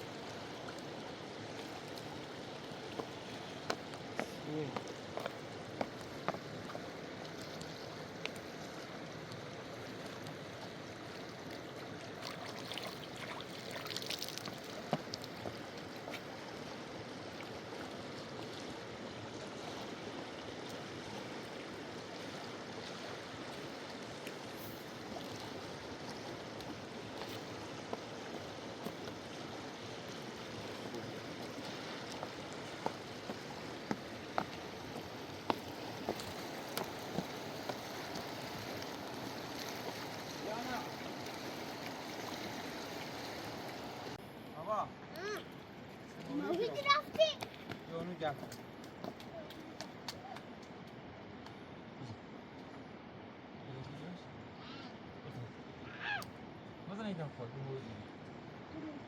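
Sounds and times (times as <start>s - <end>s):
river rushing: 0.0s - 51.1s.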